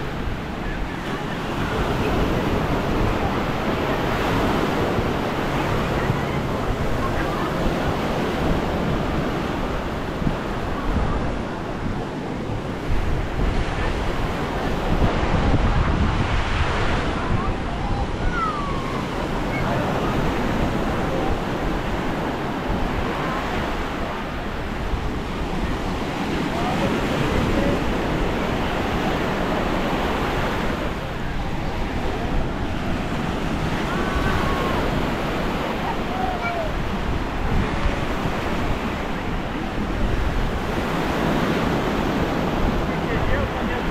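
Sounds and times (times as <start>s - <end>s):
small waves washing onto sand: 0.0s - 43.9s
wind buffeting microphone: 0.0s - 43.9s.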